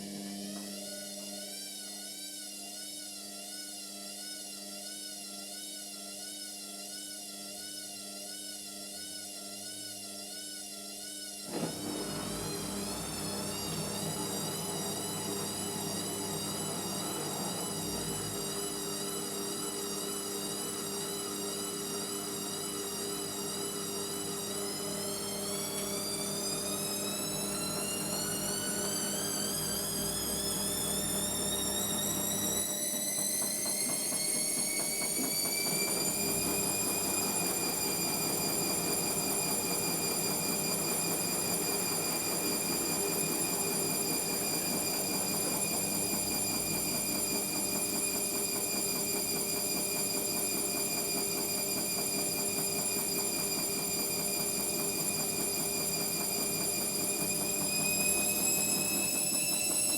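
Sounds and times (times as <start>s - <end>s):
washing machine motor whining: 11.5s - 59.9s.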